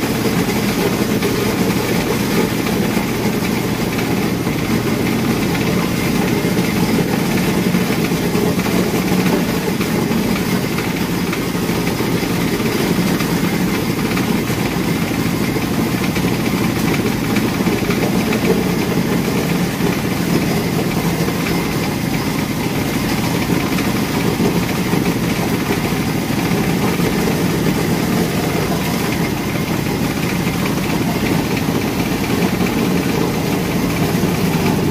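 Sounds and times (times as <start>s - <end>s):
engine low rumble: 0.0s - 34.9s.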